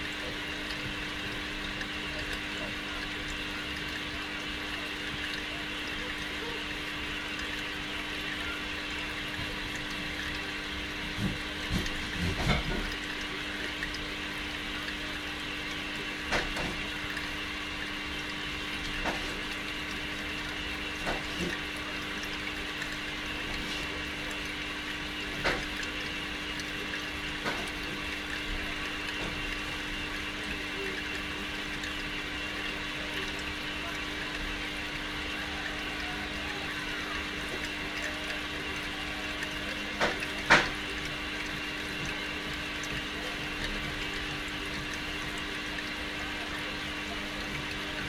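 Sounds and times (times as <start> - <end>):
low hum of filter: 0.0 - 48.0
water trickling: 0.0 - 48.0.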